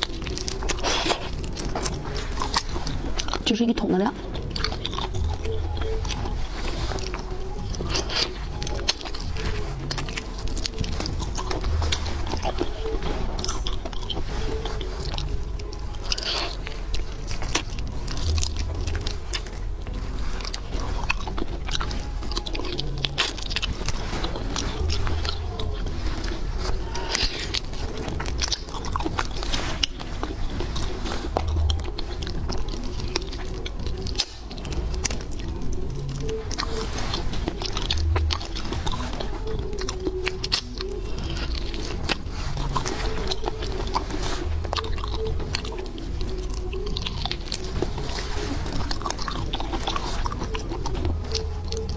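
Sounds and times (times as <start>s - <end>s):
crunchy wet chewing: 0.0s - 51.9s.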